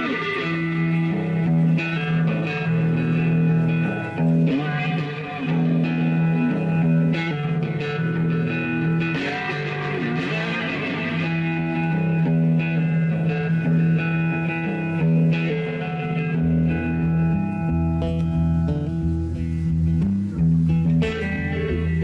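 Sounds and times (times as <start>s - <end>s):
electric guitar through amplifier: 0.0s - 22.0s
low bass notes: 0.0s - 22.0s.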